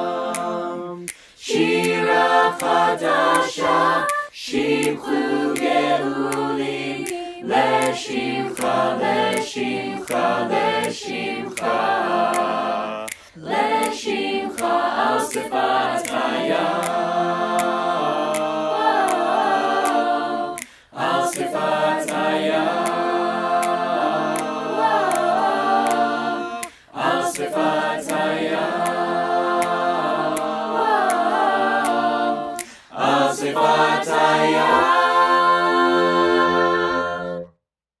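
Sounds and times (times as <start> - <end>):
light ticking beat: 0.0 - 35.6
a cappella choir singing: 0.0 - 37.6.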